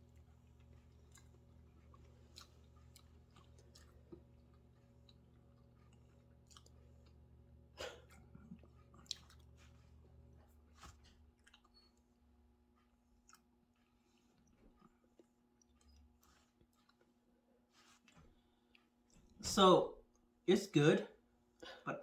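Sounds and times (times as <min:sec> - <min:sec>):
person chewing food: 0:00.0 - 0:19.4
low steady hum: 0:00.0 - 0:22.0.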